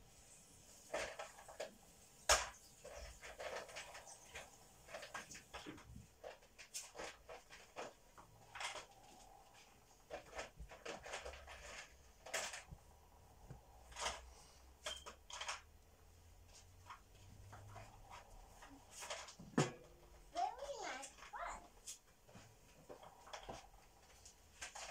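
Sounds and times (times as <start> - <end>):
faint clicks and knocks: 0.2 - 24.9.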